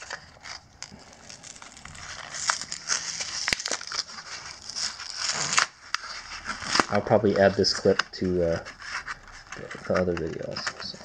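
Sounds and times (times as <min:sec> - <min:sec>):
plastic blister pack crinkling: 0:00.0 - 0:11.0.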